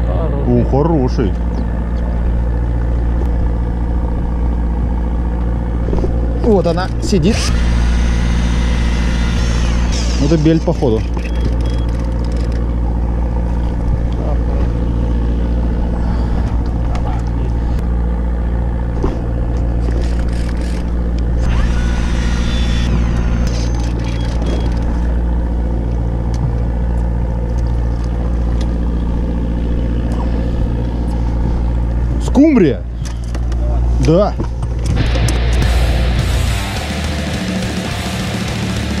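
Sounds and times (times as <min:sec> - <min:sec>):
boat engine humming: 0:00.0 - 0:39.0.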